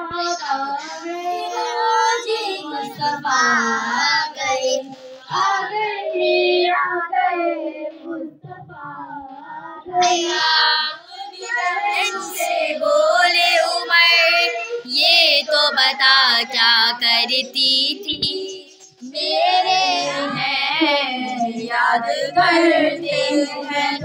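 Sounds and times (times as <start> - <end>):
girl singing into a microphone: 0.0 - 24.0.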